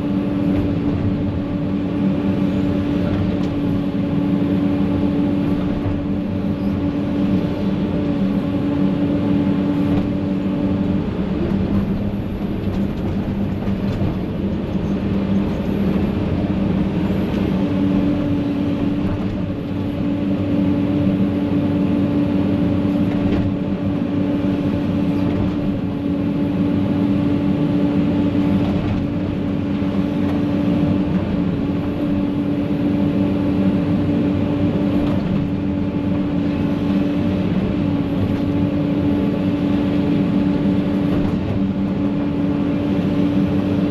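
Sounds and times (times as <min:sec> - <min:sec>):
heavy machinery diesel engine running: 0:00.0 - 0:43.9.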